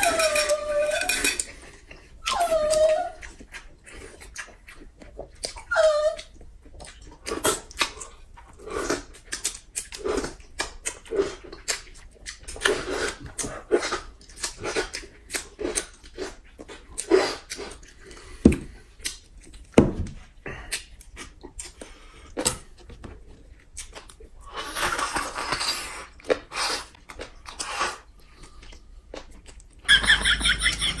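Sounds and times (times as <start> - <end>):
wet chewing and slurping: 0.0 - 29.9.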